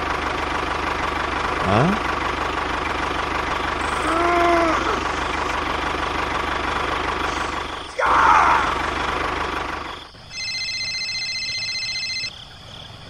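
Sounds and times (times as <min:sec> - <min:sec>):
tractor engine idling: 0:00.0 - 0:12.3.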